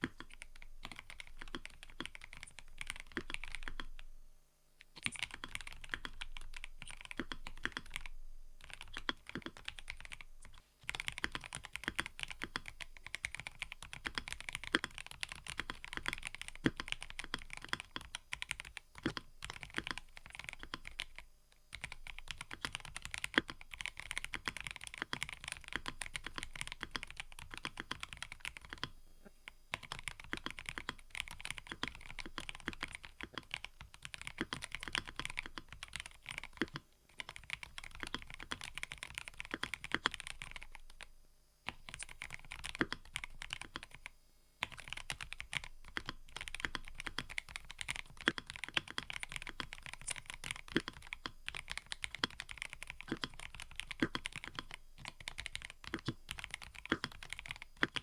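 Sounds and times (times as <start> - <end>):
mechanical keyboard typing: 0.0 - 4.0, 4.8 - 28.9, 29.7 - 41.1, 41.7 - 58.0.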